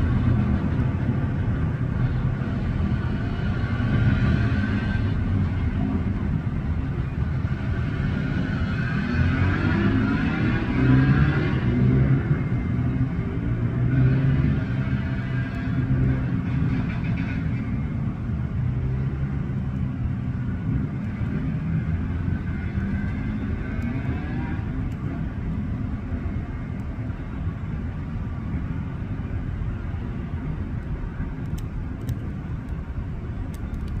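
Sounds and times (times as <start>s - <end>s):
street traffic: 0.0s - 34.0s.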